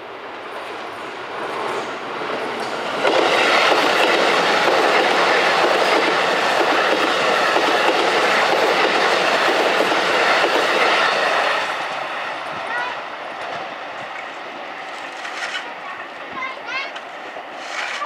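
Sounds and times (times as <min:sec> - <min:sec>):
electric train passing: 0:00.0 - 0:17.8.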